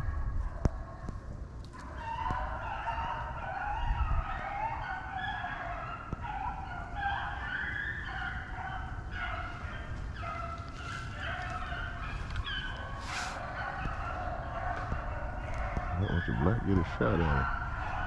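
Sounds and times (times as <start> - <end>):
hounds baying: 0.0 - 18.0.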